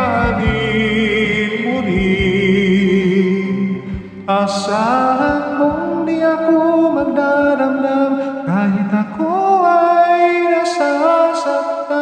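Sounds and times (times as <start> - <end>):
karaoke backing track: 0.0 - 12.0
man singing long notes: 0.0 - 12.0.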